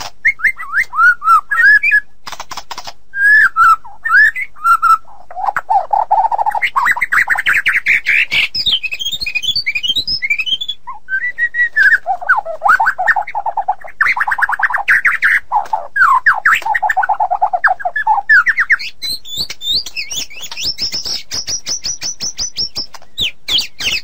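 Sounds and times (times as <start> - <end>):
bird singing trills and whistles: 0.2 - 2.2, 3.2 - 24.0.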